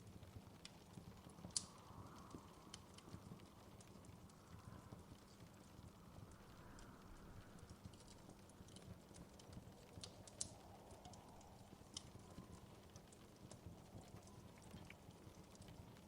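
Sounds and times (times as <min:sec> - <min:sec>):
low steady fire rumble: 0:00.0 - 0:16.0
wood fire crackling: 0:00.0 - 0:16.0.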